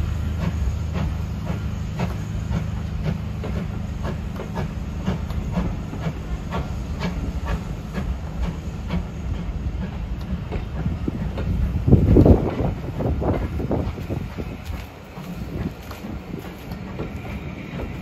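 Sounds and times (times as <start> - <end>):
hissing steam: 0.0 - 18.0
steam locomotive exhaust beats: 0.0 - 18.0
train rumbling: 0.0 - 18.0.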